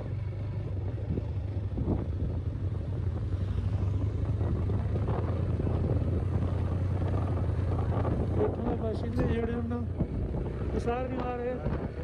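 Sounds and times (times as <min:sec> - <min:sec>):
motorcycle engine drone: 0:00.0 - 0:12.0
rushing wind noise: 0:00.9 - 0:12.0.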